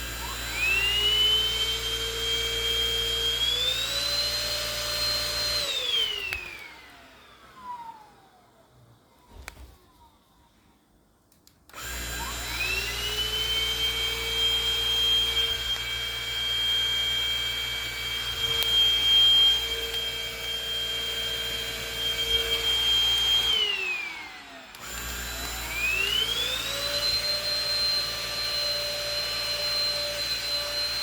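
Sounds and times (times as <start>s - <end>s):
vacuum cleaner motor whine: 0.0s - 8.8s, 11.7s - 31.0s.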